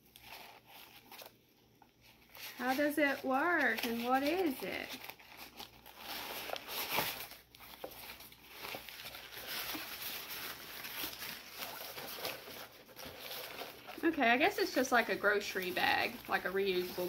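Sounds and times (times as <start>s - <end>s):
fabric bag rustling: 2.5s - 17.0s.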